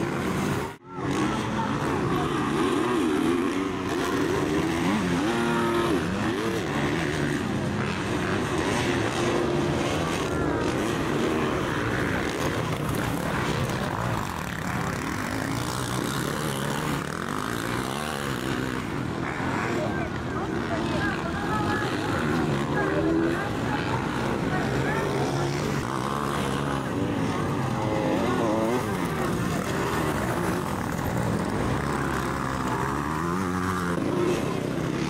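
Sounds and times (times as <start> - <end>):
motocross bike engines revving: 0.0 - 35.0.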